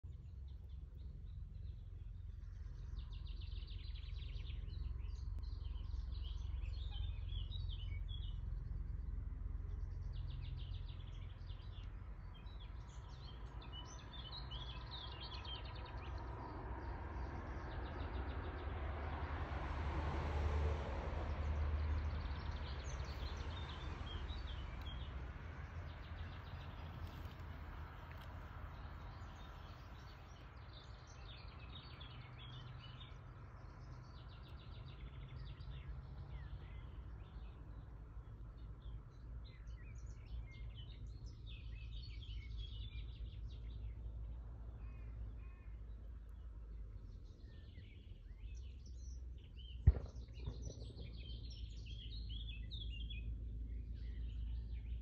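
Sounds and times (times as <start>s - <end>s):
small birds chirping: 0.0s - 18.9s, 21.3s - 55.0s
steady low rumble: 0.0s - 55.0s.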